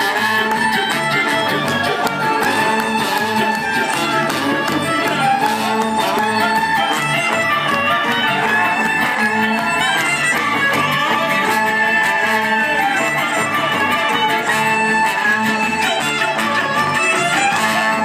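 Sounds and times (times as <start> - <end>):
double bass line: 0.0 - 18.0
guitar: 0.0 - 18.0
violin: 0.0 - 18.0.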